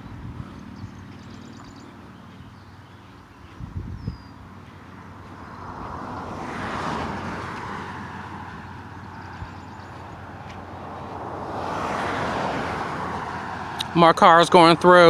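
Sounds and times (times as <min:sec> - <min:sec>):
cars passing on highway: 0:00.0 - 0:15.0.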